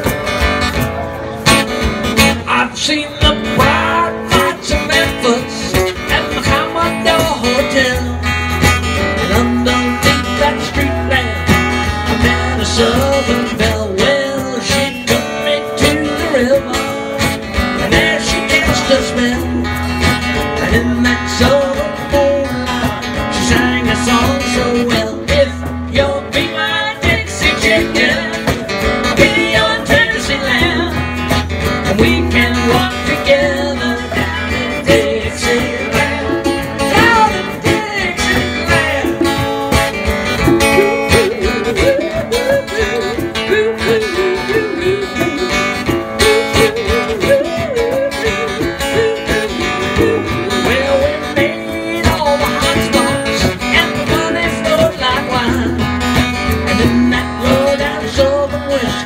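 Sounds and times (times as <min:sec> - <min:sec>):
acoustic guitar strumming: 0:00.0 - 0:59.0
congas and shaker: 0:03.6 - 0:59.0.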